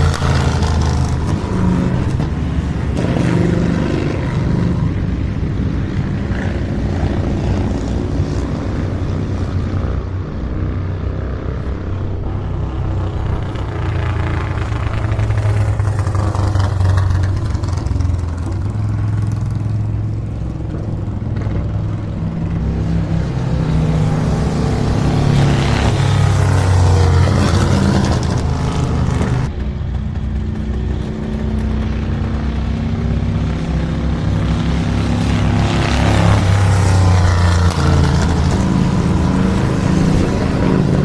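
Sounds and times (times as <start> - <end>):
motorcycle engines running loudly: 0.0 - 41.0.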